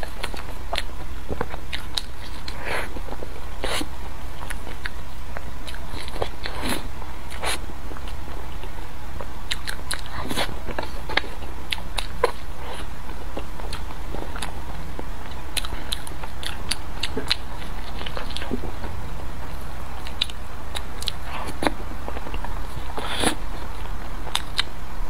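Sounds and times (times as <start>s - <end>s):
biting and chewing: 0.0s - 24.8s.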